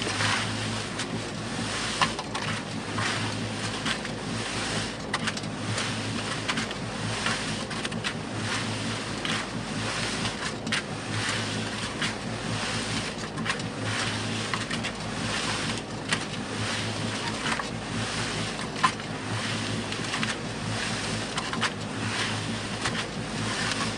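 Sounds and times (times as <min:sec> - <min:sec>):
concrete mixer motor hum: 0:00.0 - 0:23.9.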